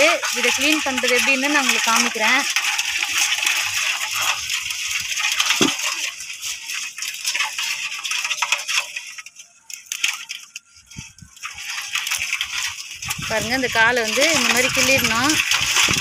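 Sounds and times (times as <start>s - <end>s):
crabs clicking on metal basin: 0.0s - 16.0s.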